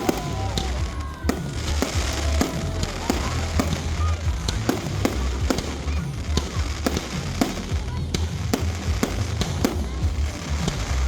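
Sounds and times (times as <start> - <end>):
fireworks sharp bangs: 0.0 - 11.0
low rumble: 0.0 - 11.0.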